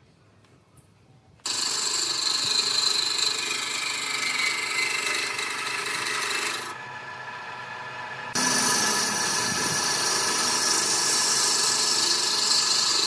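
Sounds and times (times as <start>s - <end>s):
lathe tool scraping wood: 1.5s - 13.0s.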